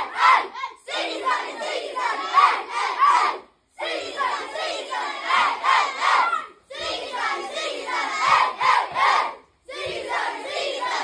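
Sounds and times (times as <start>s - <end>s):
boys shouting and chanting: 0.0s - 11.0s.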